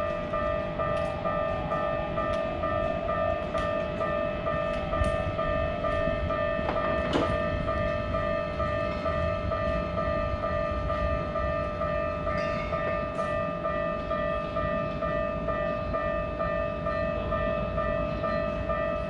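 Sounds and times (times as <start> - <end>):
railroad crossing bell dinging: 0.0 - 19.0
train rumbling past: 0.0 - 19.0.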